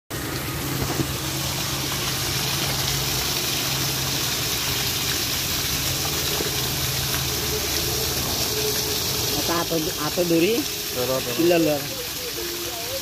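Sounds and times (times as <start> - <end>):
water gushing: 0.1 - 13.0
water pump humming: 0.1 - 13.0.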